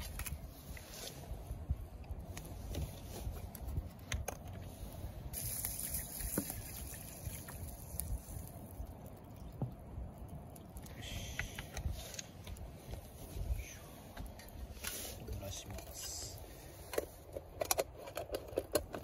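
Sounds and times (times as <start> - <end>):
wood fire crackling: 0.0 - 17.4.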